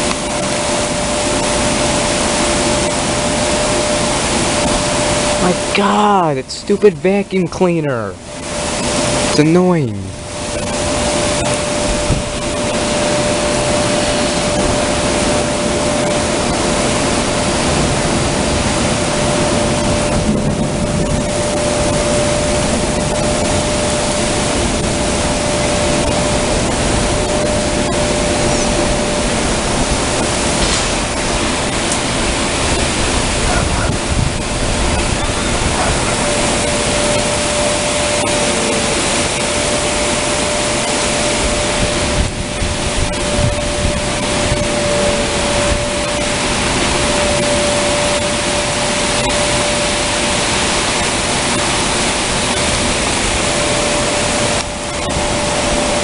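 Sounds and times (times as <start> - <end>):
vacuum cleaner whine: 0.0 - 6.8, 8.2 - 56.0
heavy rain falling: 0.0 - 56.0.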